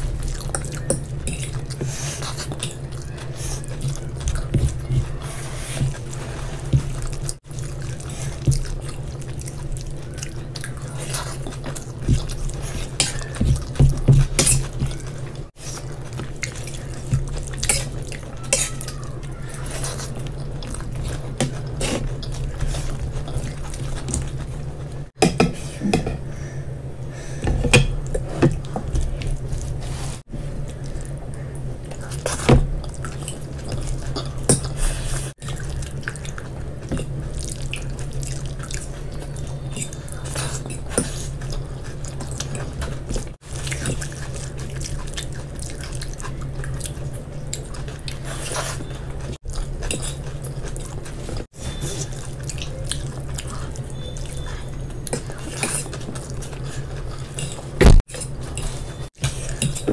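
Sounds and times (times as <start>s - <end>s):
wet chewing: 0.0s - 25.2s, 27.4s - 59.9s.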